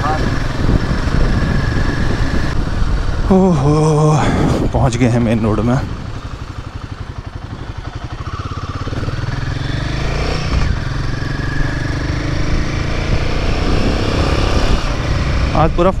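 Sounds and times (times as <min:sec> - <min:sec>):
motorcycle engine pulling away: 0:00.0 - 0:04.2, 0:04.9 - 0:15.7.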